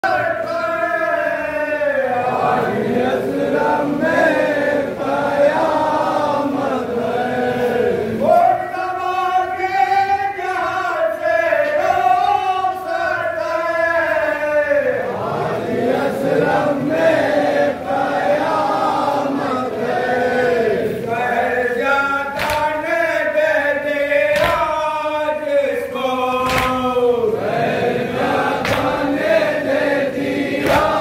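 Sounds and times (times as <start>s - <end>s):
men chanting in unison: 0.0s - 31.0s
voices at a microphone: 0.0s - 31.0s.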